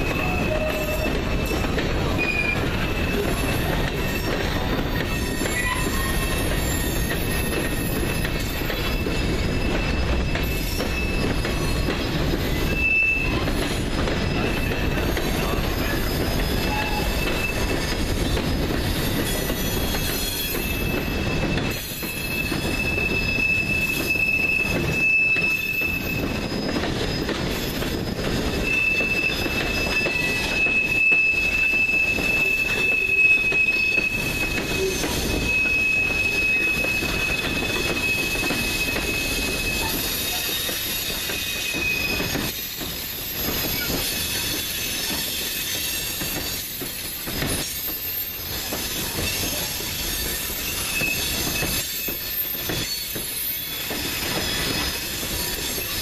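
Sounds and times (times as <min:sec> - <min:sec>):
freight train rumbling and rattling: 0:00.0 - 0:56.0
high metallic squeal: 0:00.0 - 0:56.0.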